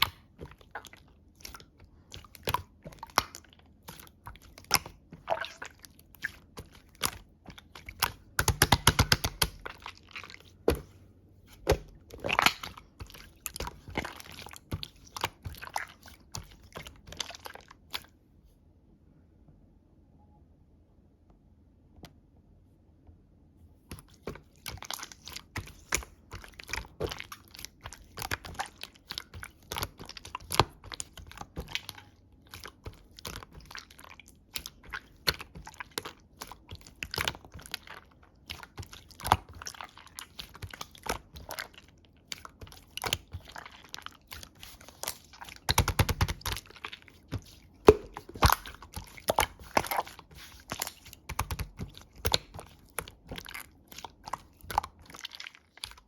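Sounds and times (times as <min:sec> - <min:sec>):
slime squished by hand: 0:00.0 - 0:18.1, 0:23.9 - 0:56.0
slime squelching: 0:00.0 - 0:18.3, 0:23.8 - 0:56.0.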